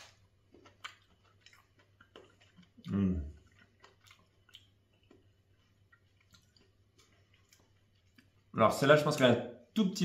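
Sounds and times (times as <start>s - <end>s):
wet mouth clicks: 0.0s - 8.3s
man chewing: 0.0s - 8.6s.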